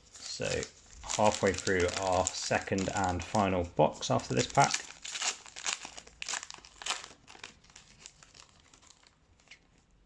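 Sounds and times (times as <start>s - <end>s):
card pack wrapper crinkling: 0.0s - 9.8s.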